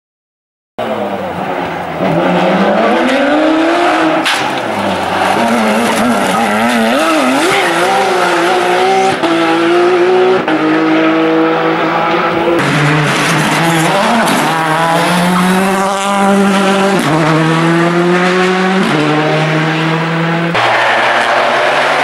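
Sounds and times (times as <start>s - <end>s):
car engine accelerating: 0.8s - 22.0s.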